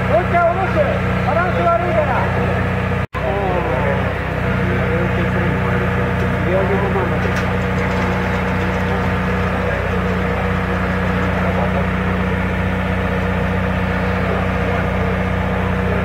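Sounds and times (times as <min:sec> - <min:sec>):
crane engine idling: 0:00.0 - 0:16.0.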